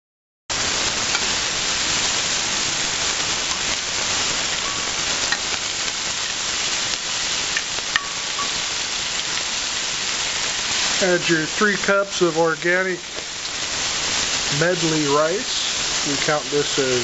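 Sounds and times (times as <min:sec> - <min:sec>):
rice sizzling in a wok: 0:00.5 - 0:17.0.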